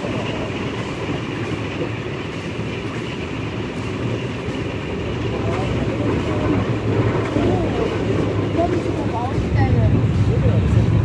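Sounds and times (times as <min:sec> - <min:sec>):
steam locomotive running: 0:00.0 - 0:11.0
wheels rumbling on rails: 0:00.0 - 0:11.0.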